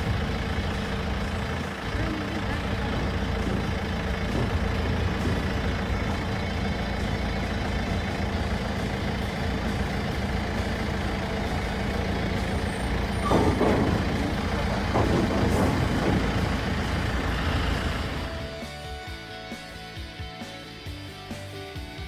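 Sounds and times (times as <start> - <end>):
road noise: 0.0 - 18.8
vehicle engine droning: 0.0 - 18.8.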